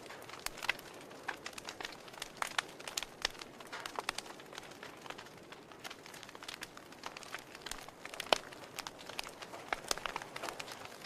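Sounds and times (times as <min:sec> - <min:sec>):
sharp pops of burning logs: 0:00.0 - 0:11.0
soft fire hiss: 0:00.0 - 0:11.0
wood fire crackling: 0:00.0 - 0:11.0.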